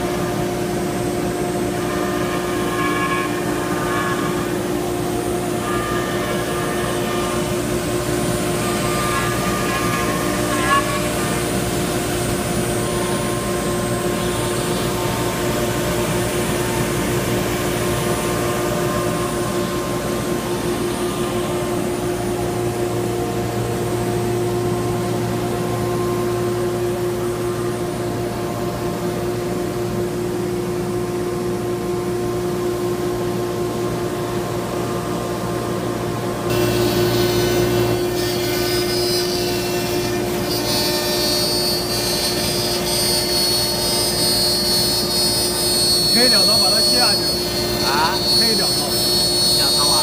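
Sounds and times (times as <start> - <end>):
cnc router running: 0.0 - 50.0.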